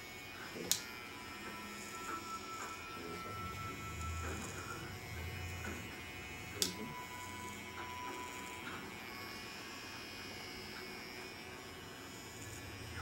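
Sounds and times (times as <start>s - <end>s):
electric hair trimmer buzzing: 0.0s - 13.0s.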